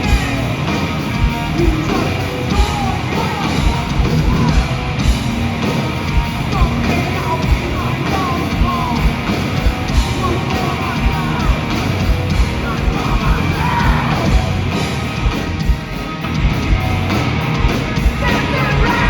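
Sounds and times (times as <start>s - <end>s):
bass guitar: 0.0s - 19.0s
distorted electric guitars: 0.0s - 19.0s
driving drum beat: 0.0s - 19.0s.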